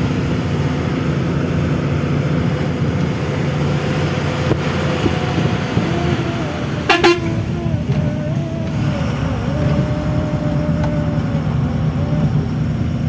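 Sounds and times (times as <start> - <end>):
road noise: 0.0 - 13.0
truck engine running: 0.0 - 13.0.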